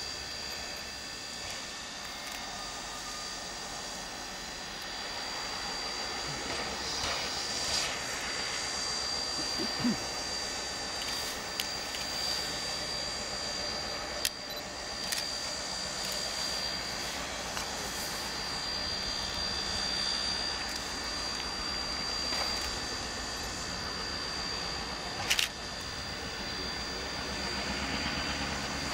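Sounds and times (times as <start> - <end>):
distant diesel locomotive drone: 0.0 - 28.9
steam venting hiss: 0.0 - 28.9.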